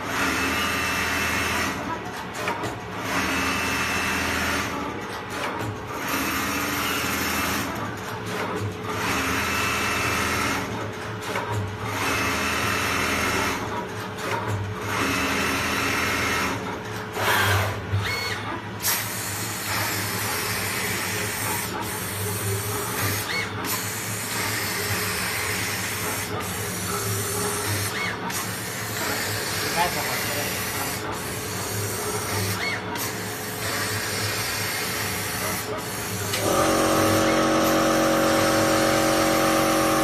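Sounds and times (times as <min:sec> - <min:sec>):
sewing machine running: 0:00.0 - 0:40.0.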